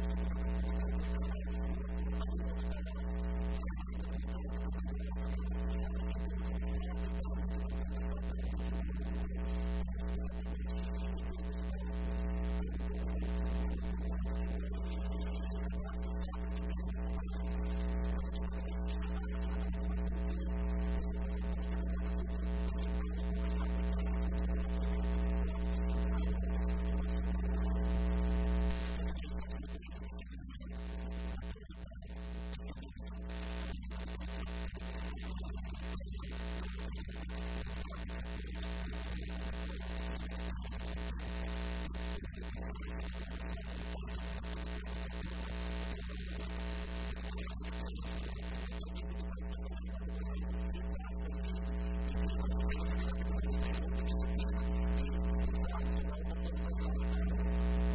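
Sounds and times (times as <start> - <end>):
electrical mains hum: 0.0 - 57.9.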